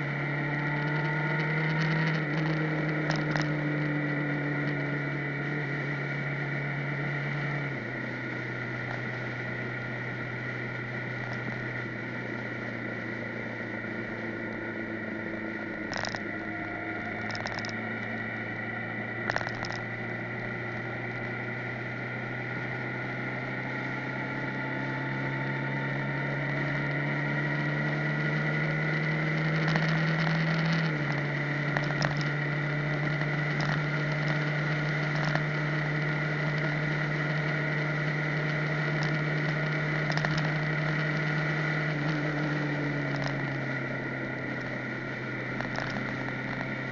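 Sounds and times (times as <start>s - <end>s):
motorcycle engine droning: 0.0s - 46.9s.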